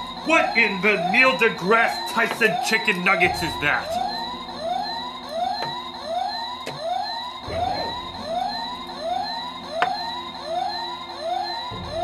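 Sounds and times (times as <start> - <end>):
electronic whooping alarm: 0.0 - 12.0.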